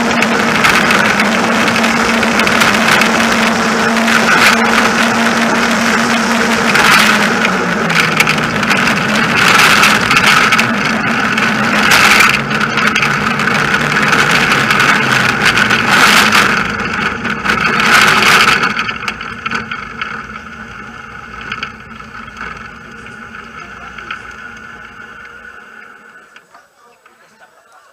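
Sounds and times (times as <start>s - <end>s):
cart rattling: 0.0s - 27.2s
wheels rushing on asphalt: 0.0s - 27.9s.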